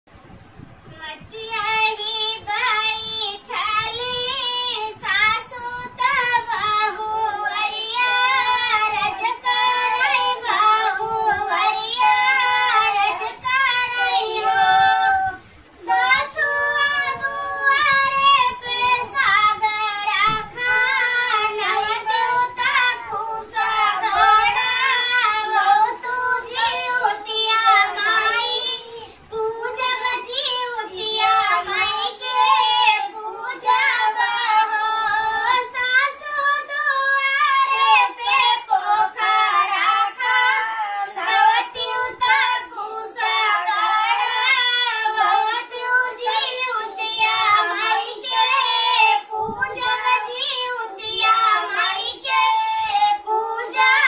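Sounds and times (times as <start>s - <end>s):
high voice singing folk song: 0.4s - 54.0s.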